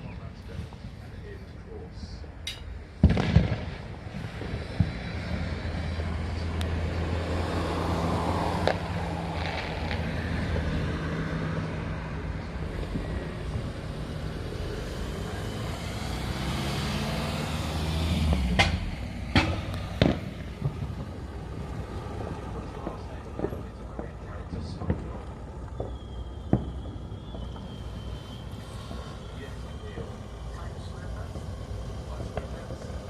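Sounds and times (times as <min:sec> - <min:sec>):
vehicle engine humming: 0:00.0 - 0:33.0
firework bangs: 0:02.5 - 0:33.0.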